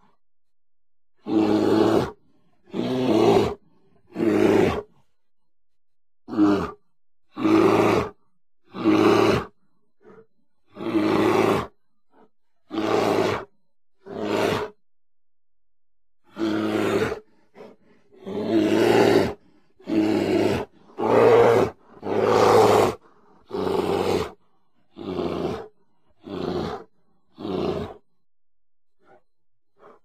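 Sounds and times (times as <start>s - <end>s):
bear roaring: 1.2s - 4.9s, 6.3s - 14.8s, 16.2s - 28.0s.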